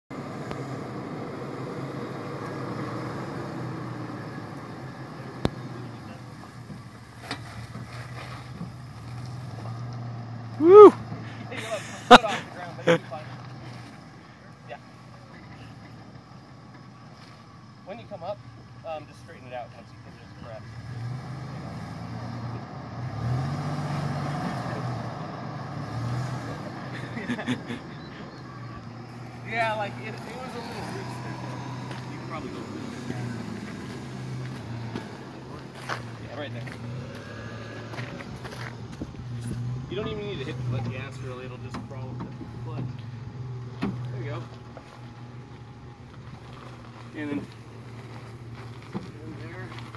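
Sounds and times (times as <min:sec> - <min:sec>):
truck engine low drone: 0:00.1 - 0:49.9.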